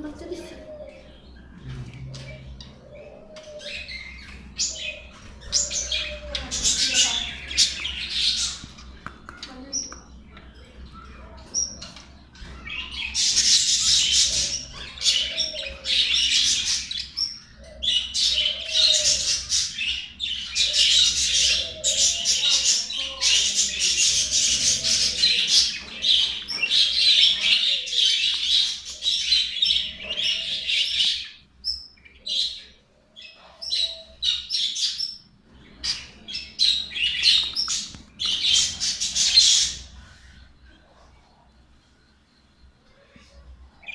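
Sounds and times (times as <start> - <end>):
budgerigars chattering and warbling: 0.1 - 41.5.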